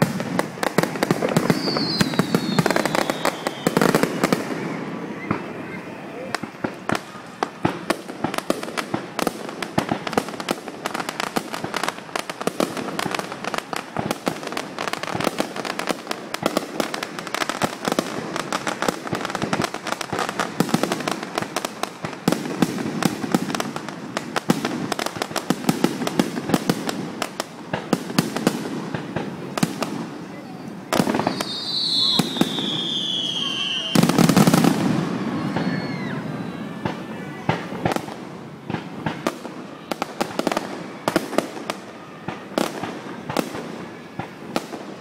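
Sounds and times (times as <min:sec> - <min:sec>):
fireworks bangs and crackling: 0:00.0 - 0:45.0
sharp loud fireworks reports: 0:00.0 - 0:45.0.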